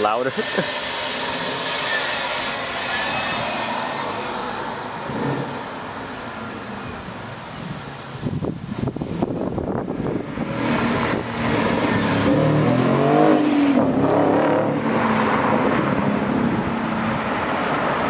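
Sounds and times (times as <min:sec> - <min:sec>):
car accelerating past: 0:00.4 - 0:07.1, 0:09.7 - 0:18.0.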